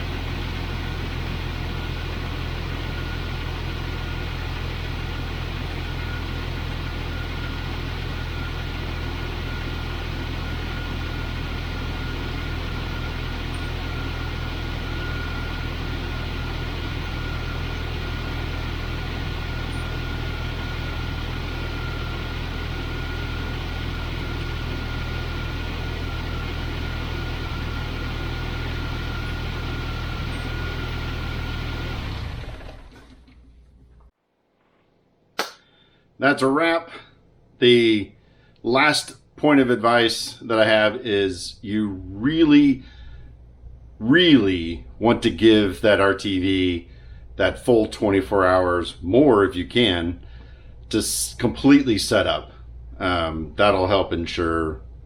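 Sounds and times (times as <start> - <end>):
thin steady whine: 0.0 - 32.9, 38.7 - 55.0
car engine idling: 0.0 - 34.1, 40.7 - 55.0.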